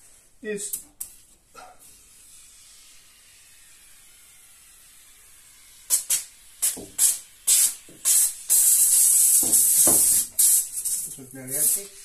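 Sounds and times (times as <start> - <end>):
foam gun hissing: 1.7 - 12.0.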